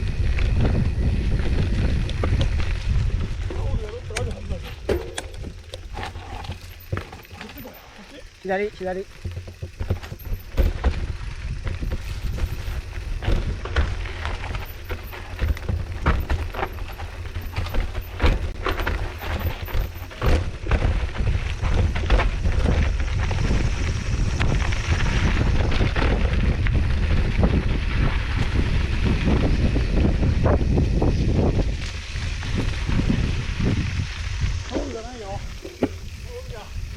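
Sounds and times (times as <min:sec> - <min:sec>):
bike clicks and rattles: 0:00.0 - 0:36.9
wind buffeting microphone: 0:00.0 - 0:36.9.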